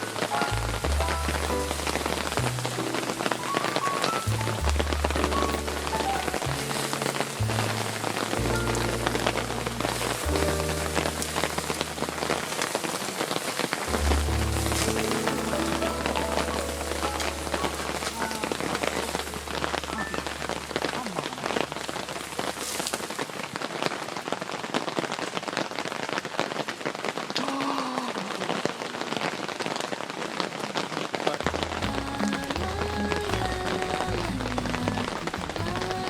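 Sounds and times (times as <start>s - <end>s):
steady rain: 0.0s - 36.0s.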